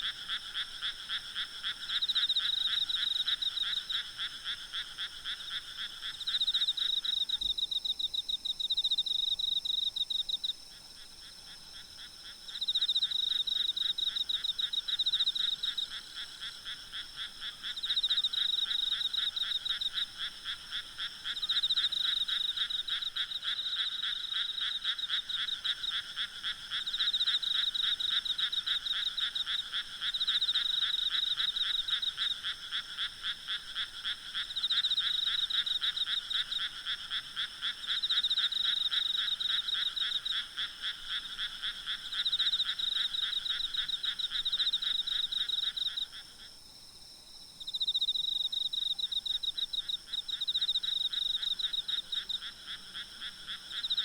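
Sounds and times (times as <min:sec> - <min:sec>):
frogs croaking: 0:00.0 - 0:46.6, 0:47.3 - 0:54.0.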